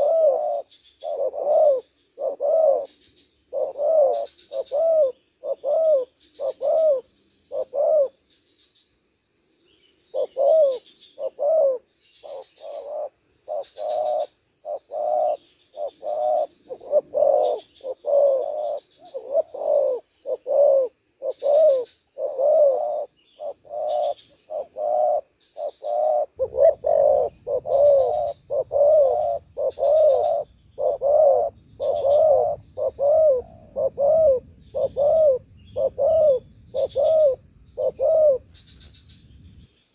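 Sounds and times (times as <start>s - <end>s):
doves cooing: 0.0s - 8.2s, 10.1s - 39.0s.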